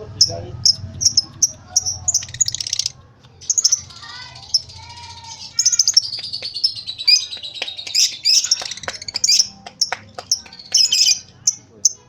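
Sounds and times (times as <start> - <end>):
lovebird chattering: 0.0 - 12.0.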